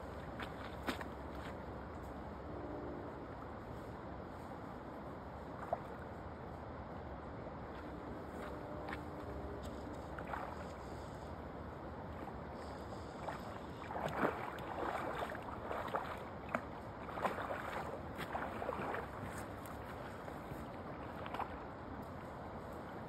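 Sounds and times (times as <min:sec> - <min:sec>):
short splashes and rustles: 0:00.0 - 0:02.3, 0:03.4 - 0:06.3, 0:07.6 - 0:11.4, 0:12.0 - 0:23.0
river water running: 0:00.0 - 0:23.0.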